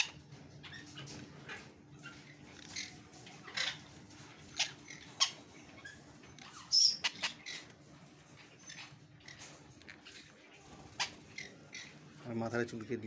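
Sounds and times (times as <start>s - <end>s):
parakeet squeaking: 0.0s - 7.7s, 8.4s - 12.1s.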